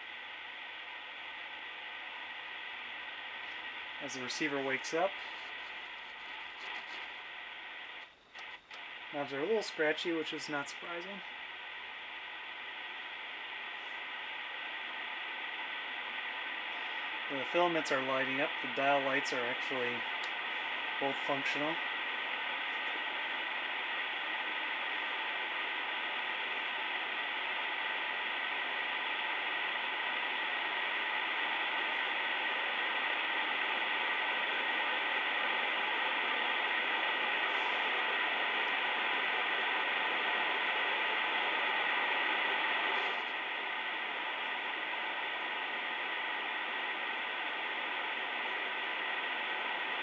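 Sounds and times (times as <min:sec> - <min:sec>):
faint steady tones: 0:00.0 - 0:50.0
radio receiver hiss and static: 0:00.0 - 0:50.0.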